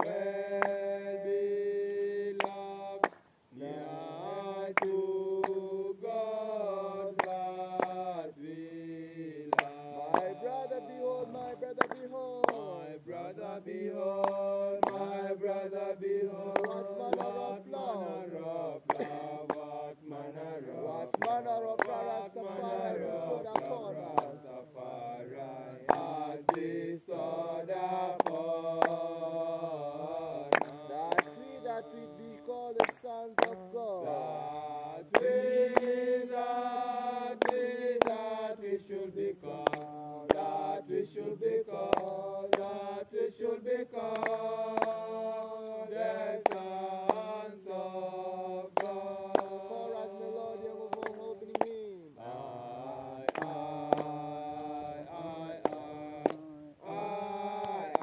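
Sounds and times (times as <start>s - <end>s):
voices chanting a slow hymn: 0.0s - 58.0s.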